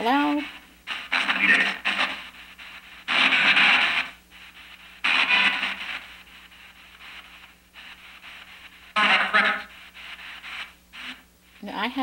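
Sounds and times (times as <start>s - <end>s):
broken radio broadcast fragments: 0.0s - 12.0s
low steady hum: 0.0s - 12.0s
radio static bursts: 0.0s - 12.0s.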